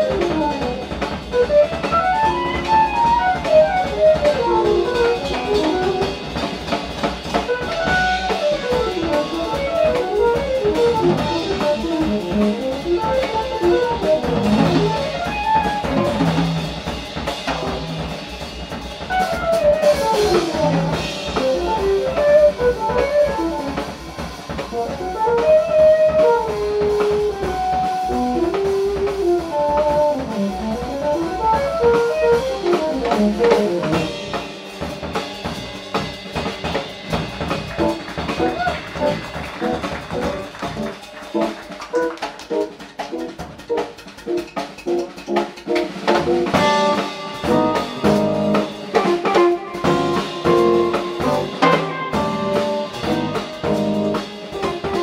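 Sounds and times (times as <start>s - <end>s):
jazz fusion band playing: 0.0s - 55.0s.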